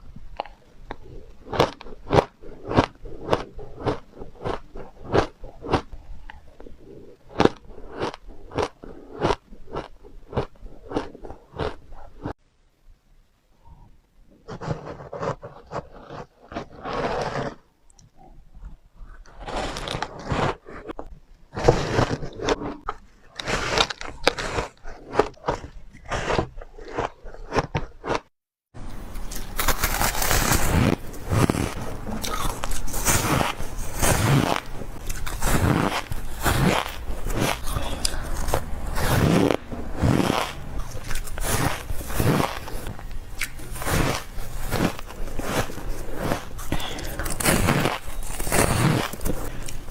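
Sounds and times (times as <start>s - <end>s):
chewing crunchy ice: 0.4s - 12.4s, 15.2s - 28.3s, 29.3s - 49.9s.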